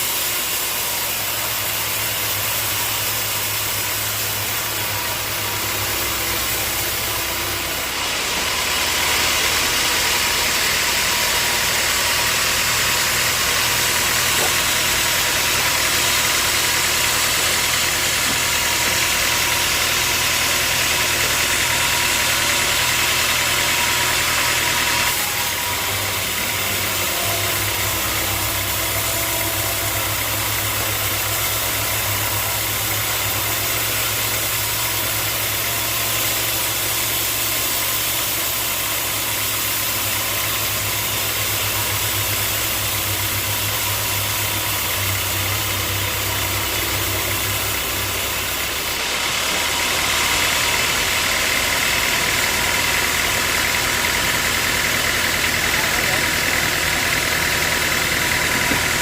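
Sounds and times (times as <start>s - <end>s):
motor hum: 0.0s - 59.0s.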